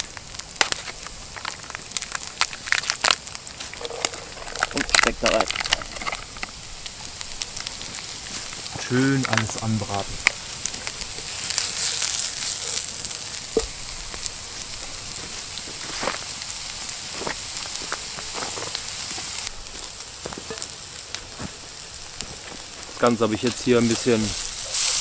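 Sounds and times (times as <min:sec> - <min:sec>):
sharp popping of hot oil: 0:00.0 - 0:22.9, 0:23.9 - 0:25.0
onions and bacon sizzling in oil: 0:00.0 - 0:25.0.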